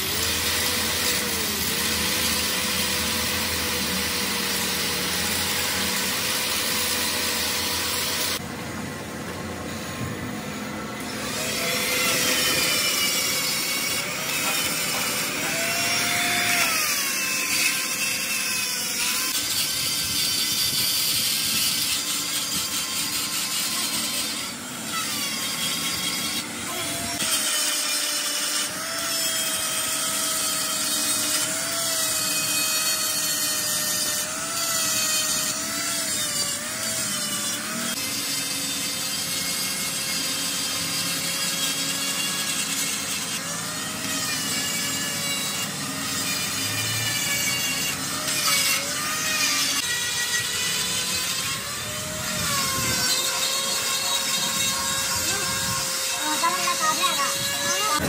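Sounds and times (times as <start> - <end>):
angle grinder grinding metal: 0.0 - 8.5, 9.2 - 58.0.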